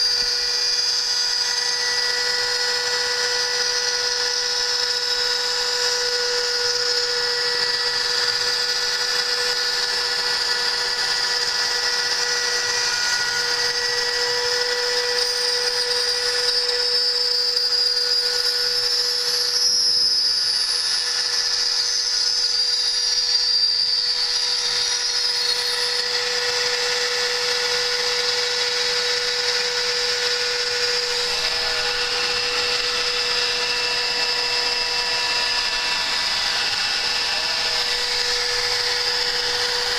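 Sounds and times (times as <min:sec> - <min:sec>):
end mill cutting aluminium: 0:00.0 - 0:39.9
router spindle whine: 0:00.0 - 0:39.9.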